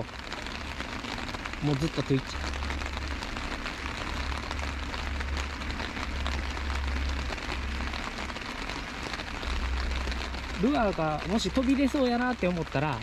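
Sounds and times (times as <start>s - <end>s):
heavy rain on water and concrete: 0.0s - 13.0s.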